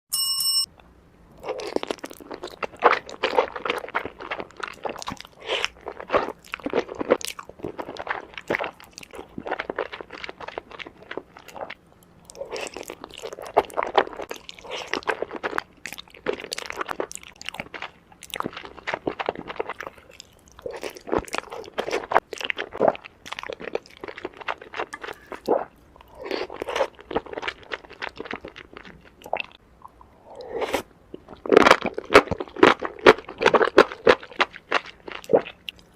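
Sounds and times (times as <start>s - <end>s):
crunchy chewing and mouth sounds: 1.3s - 35.9s.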